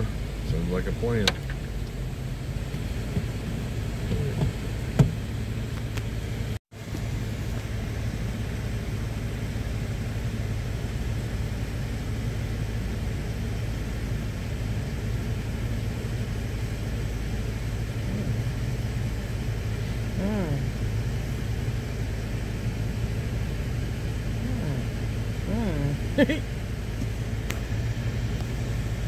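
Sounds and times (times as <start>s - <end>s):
engine rumble inside vehicle: 0.0s - 29.0s.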